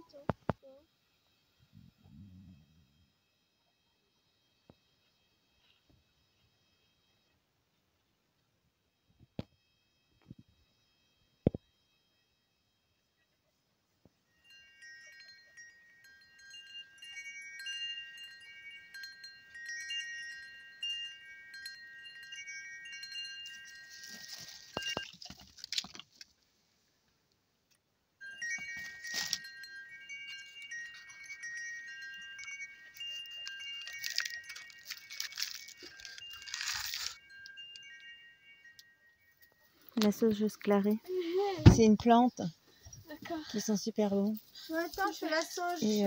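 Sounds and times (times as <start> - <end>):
tinkling metal chimes: 0.0 - 7.4, 9.6 - 26.0, 28.0 - 46.0.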